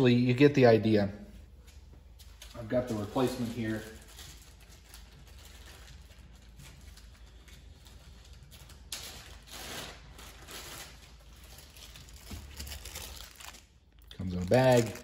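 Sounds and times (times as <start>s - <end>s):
plastic bag rustling: 2.5s - 15.0s.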